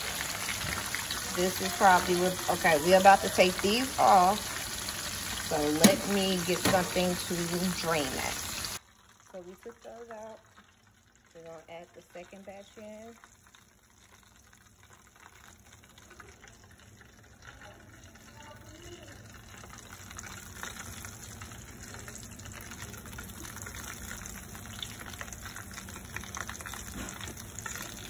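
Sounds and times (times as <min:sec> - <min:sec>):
chicken frying in hot oil: 0:00.0 - 0:28.0.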